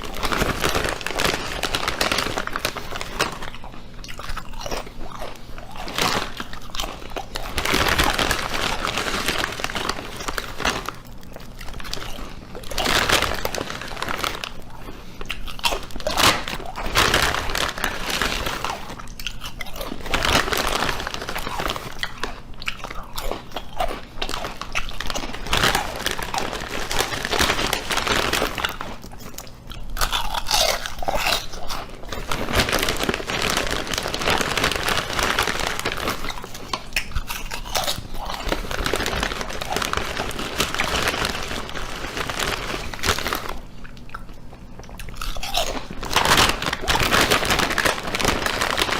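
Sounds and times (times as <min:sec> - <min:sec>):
crunching and chewing: 0:00.0 - 0:48.9.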